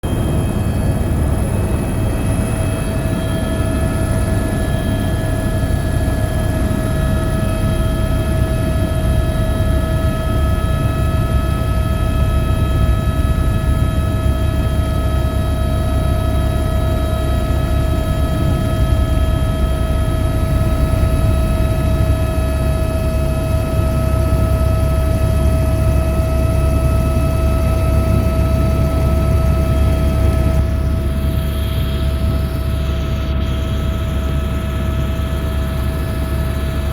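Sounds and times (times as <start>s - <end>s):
helicopter rotor and engine: 0.0s - 36.9s.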